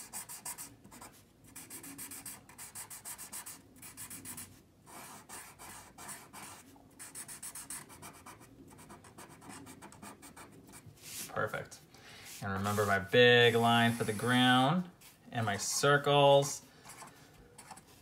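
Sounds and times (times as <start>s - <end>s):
marker drawing on paper: 0.0s - 11.5s, 12.2s - 16.1s, 16.8s - 18.0s.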